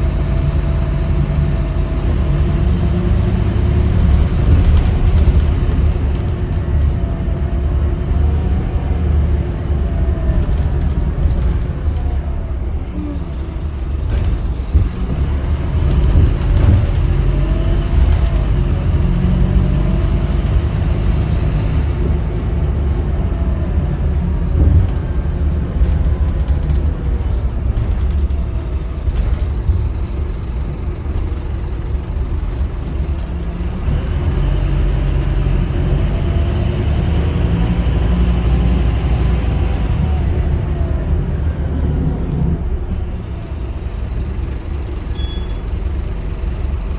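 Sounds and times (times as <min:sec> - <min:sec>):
bus engine rumble: 0:00.0 - 0:46.9
bus whine: 0:00.0 - 0:46.9.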